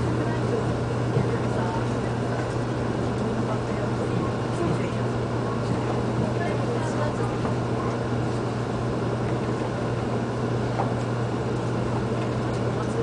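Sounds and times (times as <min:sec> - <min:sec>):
train carriage hum: 0:00.0 - 0:13.0.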